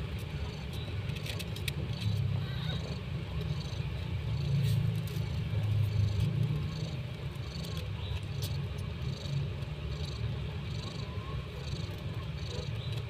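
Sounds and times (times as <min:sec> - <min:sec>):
cat purring: 0:01.6 - 0:13.0.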